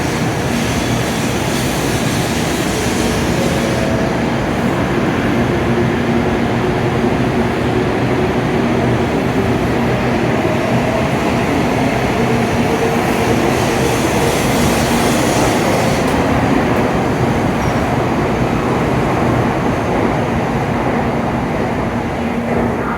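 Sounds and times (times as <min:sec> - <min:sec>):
train pulling out: 0:00.0 - 0:22.9.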